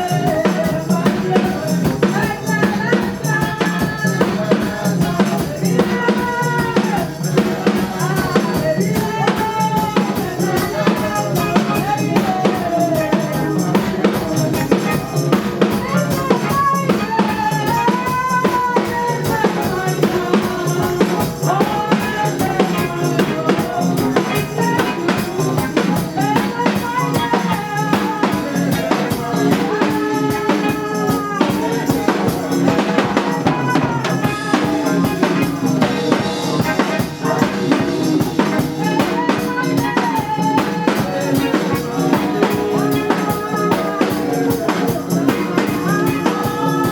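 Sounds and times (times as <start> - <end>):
drum kit beat with rimshots: 0.0 - 46.9
praise music: 0.0 - 46.9.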